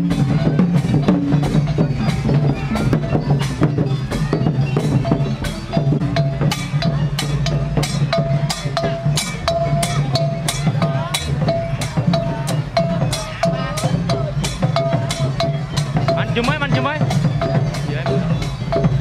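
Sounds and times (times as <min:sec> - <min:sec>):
long drums beating: 0:00.0 - 0:19.0
sharp clicking percussion: 0:00.0 - 0:19.0.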